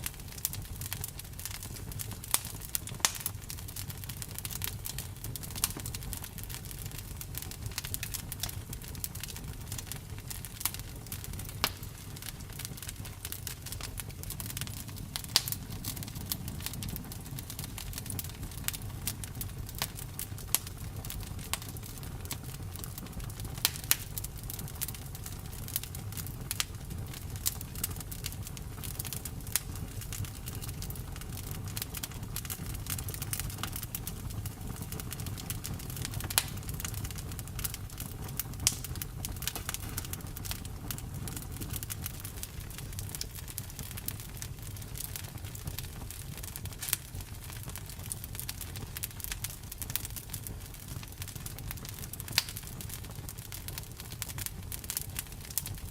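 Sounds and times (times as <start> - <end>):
low rumble of flames: 0.0 - 55.9
wood crackling and popping: 0.0 - 55.9.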